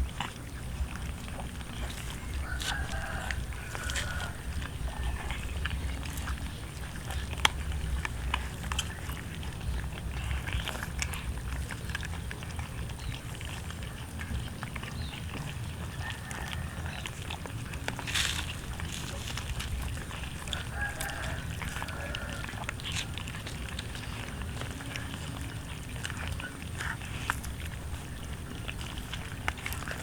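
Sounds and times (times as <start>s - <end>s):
cats chewing and crunching: 0.0s - 30.0s
steady low rumble: 0.0s - 30.0s.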